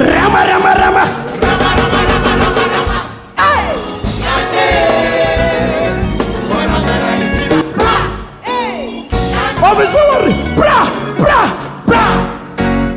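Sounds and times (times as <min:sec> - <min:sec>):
gospel band playing: 0:00.0 - 0:12.9.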